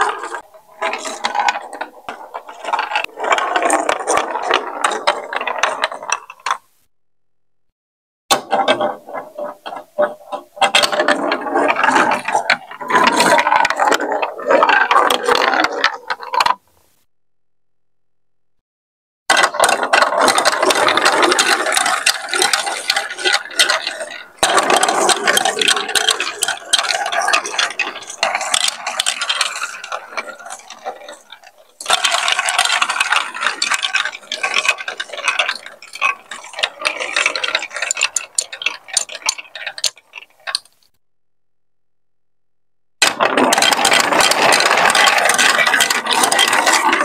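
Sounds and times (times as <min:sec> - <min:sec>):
plastic balls rattling down chutes: 0:00.0 - 0:06.8, 0:08.3 - 0:16.9, 0:19.3 - 0:41.0, 0:43.0 - 0:47.0.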